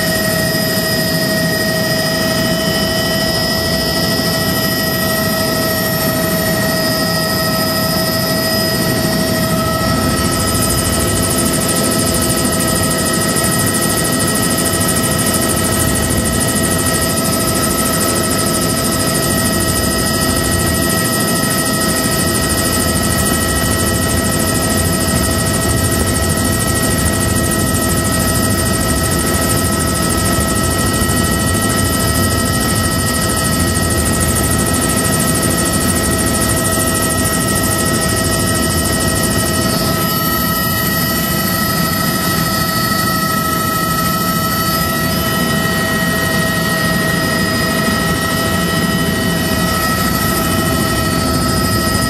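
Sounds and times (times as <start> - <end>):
helicopter engine and rotor noise: 0.0 - 52.0.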